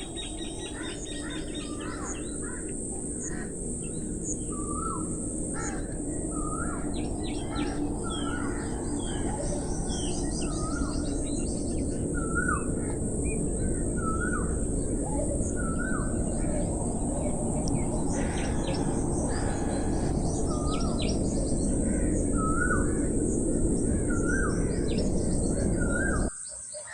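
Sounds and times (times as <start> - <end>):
birds chirping: 0.0 - 26.3
low rushing noise: 0.0 - 26.3.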